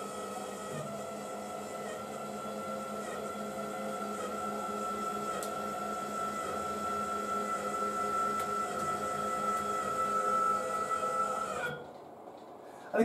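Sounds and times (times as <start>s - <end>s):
actuator motor whining: 0.0s - 12.0s.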